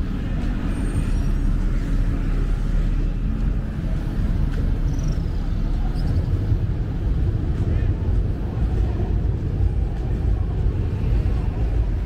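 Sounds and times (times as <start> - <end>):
cars and motorbikes passing: 0.0 - 12.0.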